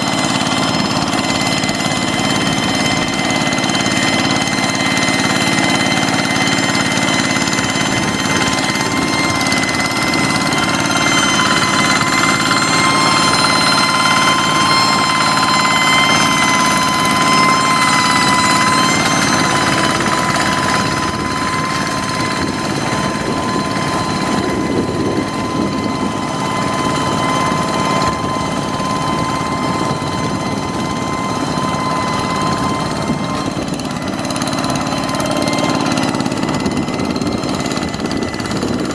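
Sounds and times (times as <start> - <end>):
high steady whine: 0.0 - 38.9
tractor engine running: 0.0 - 38.9.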